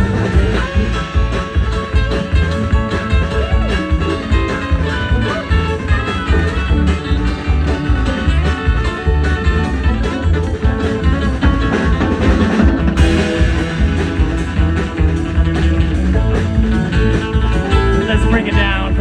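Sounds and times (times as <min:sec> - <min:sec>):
bass beat: 0:00.0 - 0:19.0
plucked guitar lead: 0:00.0 - 0:19.0.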